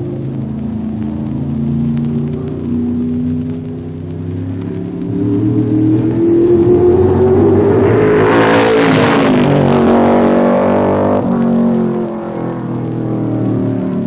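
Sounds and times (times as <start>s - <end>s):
race car engine passing: 1.3s - 14.0s.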